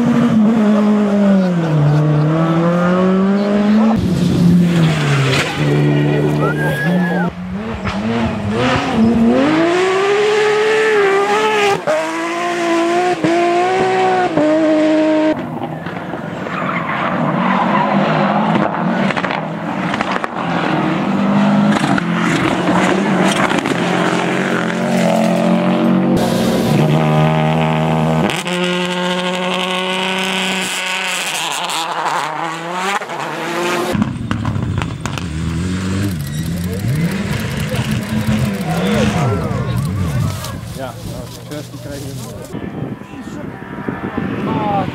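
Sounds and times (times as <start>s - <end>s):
rally car engines revving: 0.0s - 44.9s
tyres skidding: 0.4s - 44.8s.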